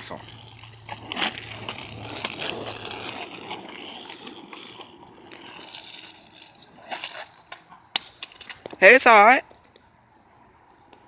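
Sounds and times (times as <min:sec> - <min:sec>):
skateboard rolling on asphalt: 0:00.0 - 0:11.0.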